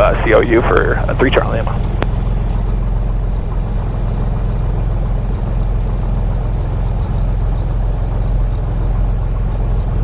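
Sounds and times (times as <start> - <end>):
aircraft piston engine idling: 0.0 - 10.0.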